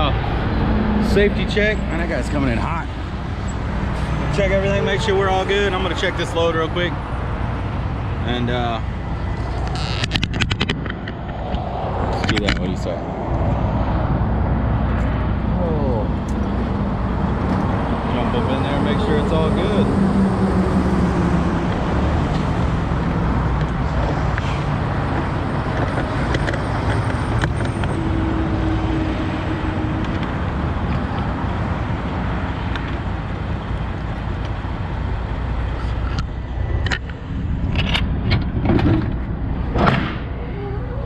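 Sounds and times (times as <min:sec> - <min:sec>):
highway traffic rushing past: 0:00.0 - 0:40.8.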